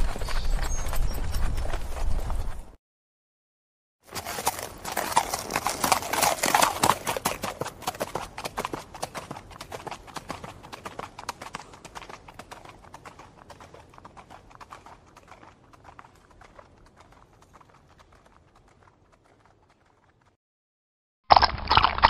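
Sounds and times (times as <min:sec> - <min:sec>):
horse hooves galloping: 0:00.0 - 0:02.7, 0:04.1 - 0:20.4.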